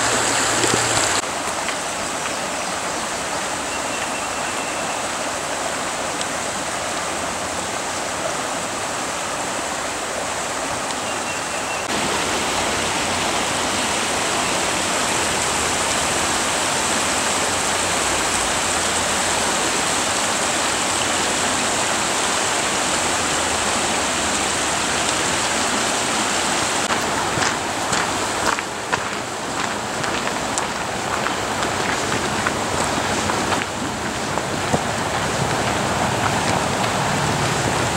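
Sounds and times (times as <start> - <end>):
rushing stream: 0.0 - 37.9.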